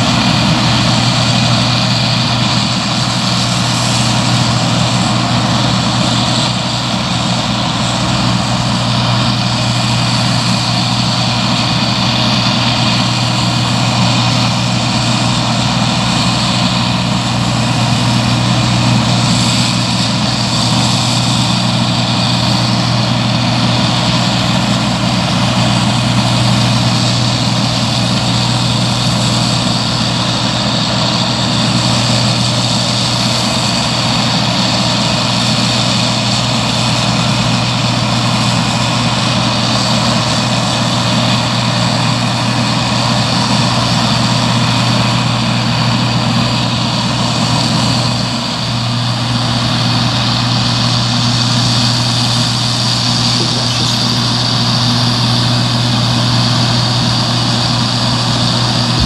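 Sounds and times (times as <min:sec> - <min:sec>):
combine harvester engine and threshing drone: 0:00.0 - 0:59.0.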